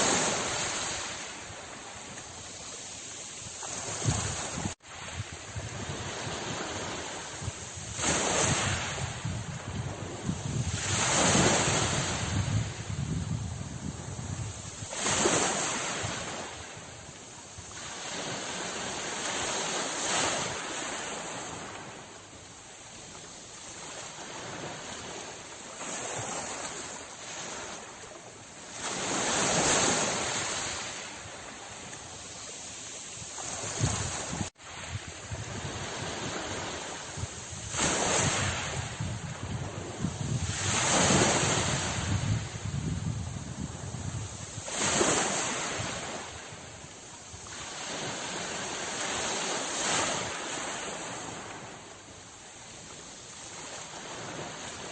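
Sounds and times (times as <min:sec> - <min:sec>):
sea waves breaking: 0:00.0 - 0:54.9.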